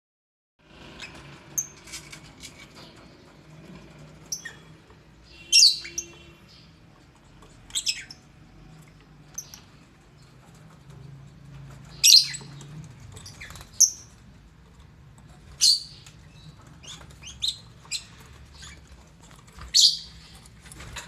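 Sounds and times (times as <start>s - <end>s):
lovebirds chirping and squawking: 0.6s - 21.0s.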